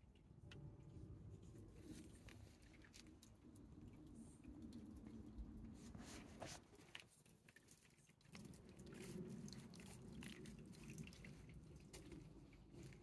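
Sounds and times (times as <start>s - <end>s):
faint animal clicks and rustles: 0.0s - 13.0s
low steady hum: 0.0s - 13.0s.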